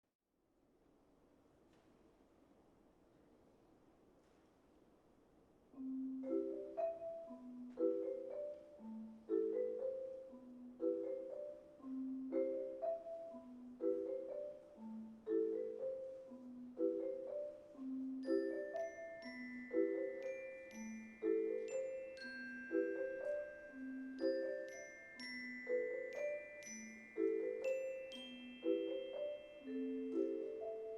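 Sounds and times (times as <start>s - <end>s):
glockenspiel notes: 5.8s - 30.9s
marimba waltz accompaniment: 5.8s - 30.9s.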